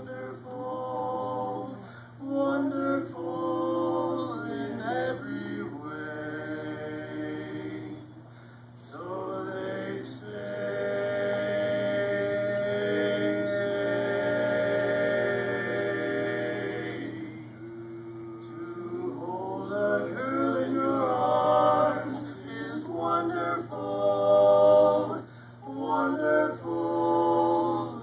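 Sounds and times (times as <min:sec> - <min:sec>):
male vocal quartet singing a cappella: 0:00.0 - 0:28.0.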